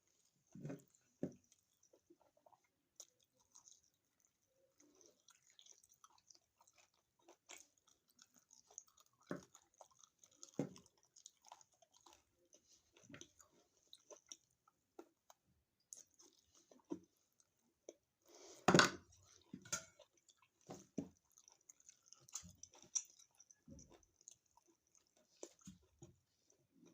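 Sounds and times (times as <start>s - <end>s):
person chewing: 0.1s - 26.9s.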